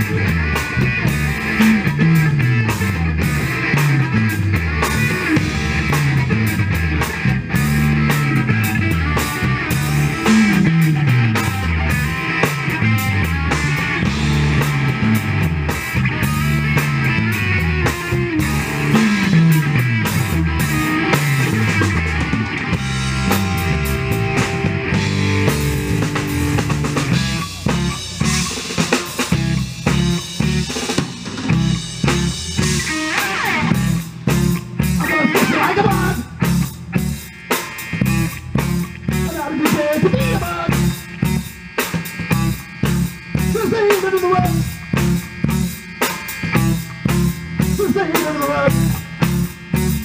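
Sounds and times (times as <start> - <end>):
rock band playing: 0.0 - 50.0
sliding bass line: 0.0 - 50.0.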